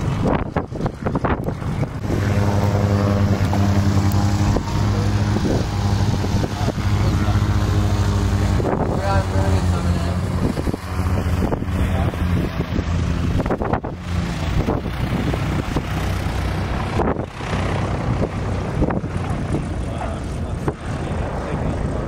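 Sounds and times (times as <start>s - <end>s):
propeller plane engine droning: 0.0s - 22.0s
wind noise on microphone: 0.0s - 22.0s.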